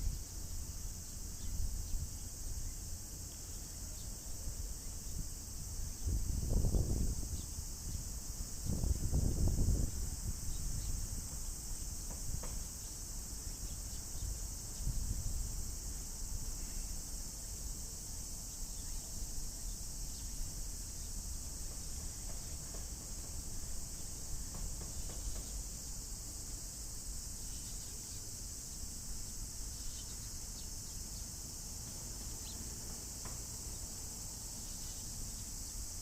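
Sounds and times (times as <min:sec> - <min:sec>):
cicadas droning: 0:00.0 - 0:36.0.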